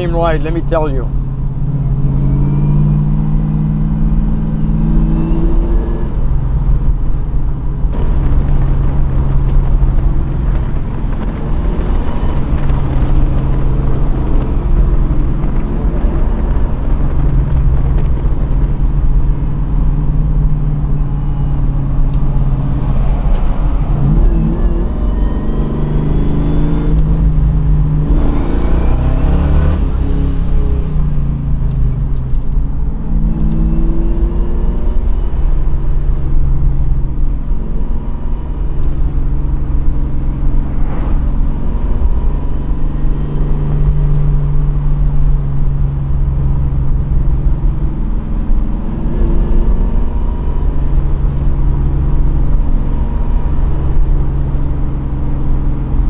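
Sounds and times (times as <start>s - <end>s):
car engine revving while driving: 0.0s - 56.0s.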